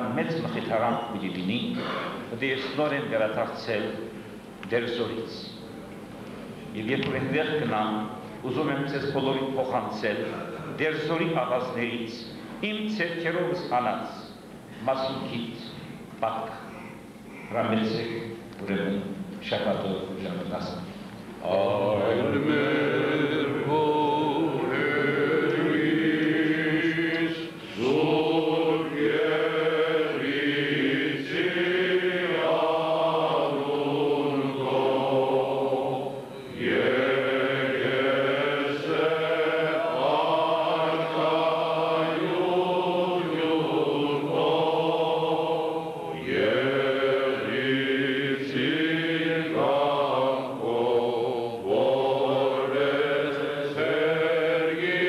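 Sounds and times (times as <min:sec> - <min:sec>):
men chanting a hymn: 0:00.0 - 0:05.4, 0:06.8 - 0:55.0.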